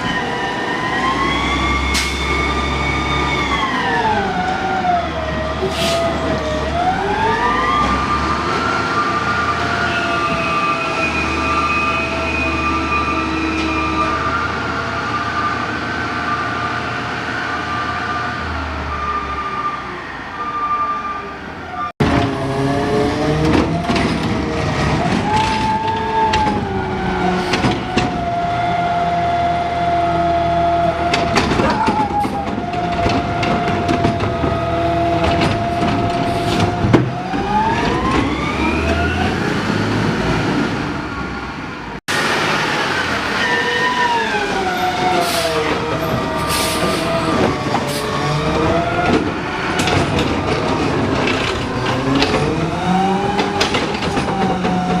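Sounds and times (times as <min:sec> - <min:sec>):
garbage truck engine and hydraulics: 0:00.0 - 0:55.0.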